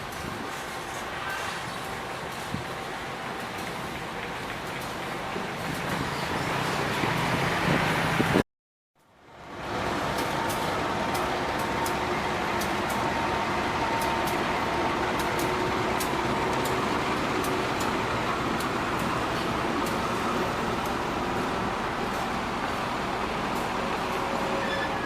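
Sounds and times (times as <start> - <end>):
train rumbling on track: 0.0 - 8.4, 9.2 - 25.0.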